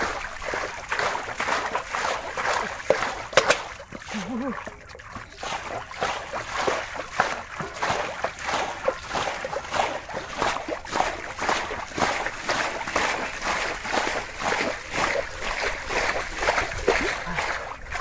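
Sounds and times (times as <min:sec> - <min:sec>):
hands splashing in muddy water: 0:00.0 - 0:18.0.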